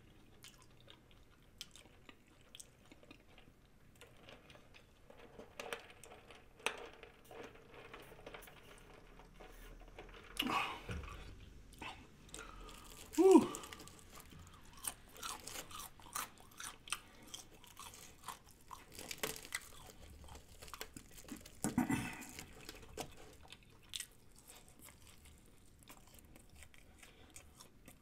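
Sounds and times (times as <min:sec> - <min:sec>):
chewing crispy fried chicken: 0:00.0 - 0:08.0, 0:09.0 - 0:28.0.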